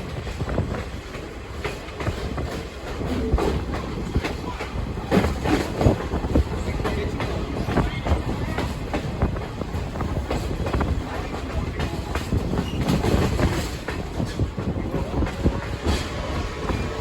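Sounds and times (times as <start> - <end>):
train coach rumbling: 0.0 - 17.0
wheels clacking over rail joints: 0.0 - 17.0.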